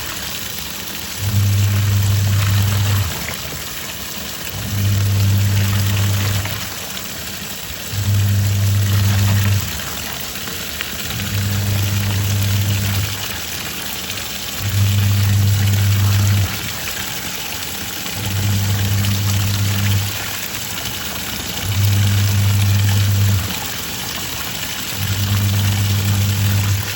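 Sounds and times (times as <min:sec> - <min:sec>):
water swishing: 0:00.0 - 0:13.7, 0:18.2 - 0:26.9
washing machine motor humming: 0:00.0 - 0:26.9.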